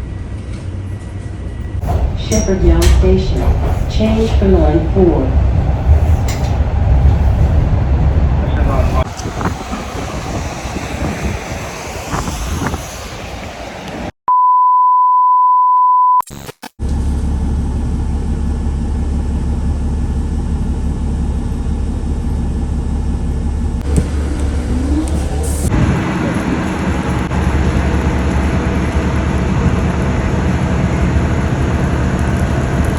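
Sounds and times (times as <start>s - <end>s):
low vehicle hum: 0.0s - 14.1s, 16.8s - 32.9s
vehicle ride rumble: 0.0s - 14.2s, 16.8s - 32.9s.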